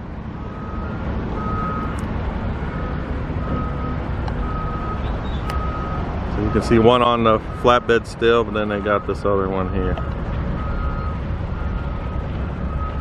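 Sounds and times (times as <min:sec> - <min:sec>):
diesel machinery rumbling: 0:00.0 - 0:13.0
vehicle backup alarm beeping: 0:00.4 - 0:13.0.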